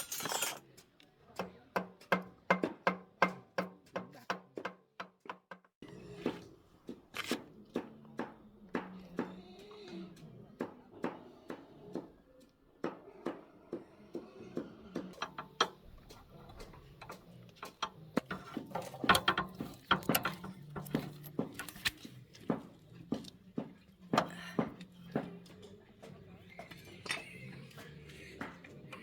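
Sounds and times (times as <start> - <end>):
hand tools clicking and knocking: 0.0 - 5.6, 6.9 - 29.0.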